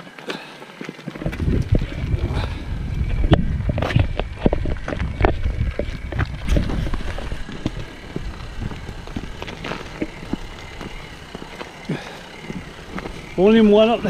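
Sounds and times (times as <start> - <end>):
footsteps on concrete: 0.0 - 14.0
trolley wheels rolling on concrete: 0.0 - 14.0
wind buffeting microphone: 1.2 - 14.0.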